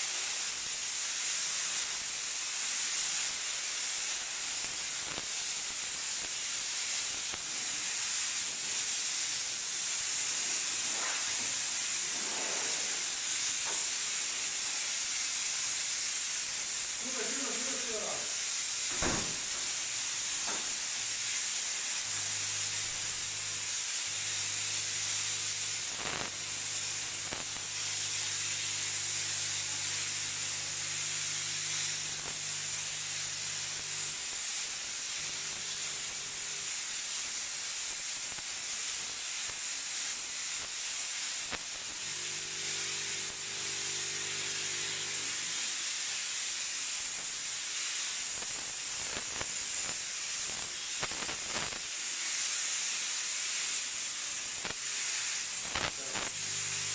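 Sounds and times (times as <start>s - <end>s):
steam jet hissing: 0.0s - 56.9s.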